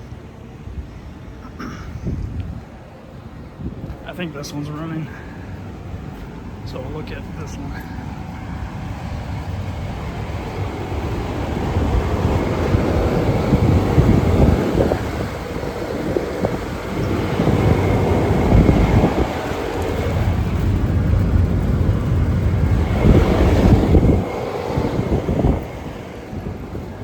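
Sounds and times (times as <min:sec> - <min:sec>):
condensing unit fan and hum: 0:00.0 - 0:27.0
wind buffeting microphone: 0:00.0 - 0:27.0.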